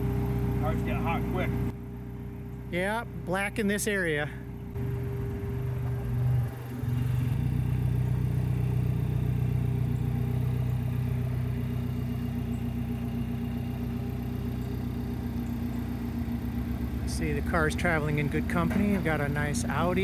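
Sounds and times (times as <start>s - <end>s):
winch machinery humming: 0.0s - 20.0s.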